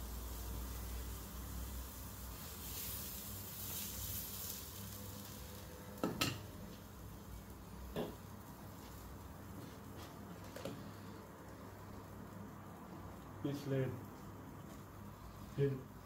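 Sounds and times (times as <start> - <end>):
pancake sizzling in pan: 0.0 - 15.8.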